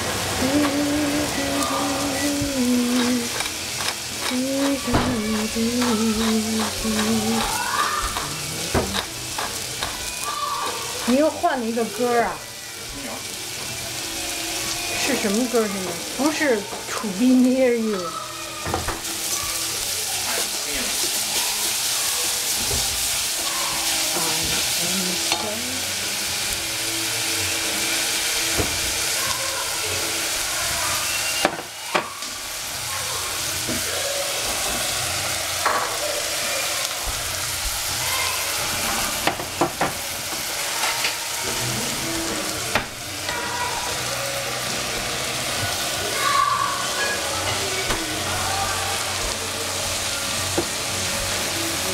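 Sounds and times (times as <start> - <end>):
vegetables sizzling in a pan: 0.0 - 51.9.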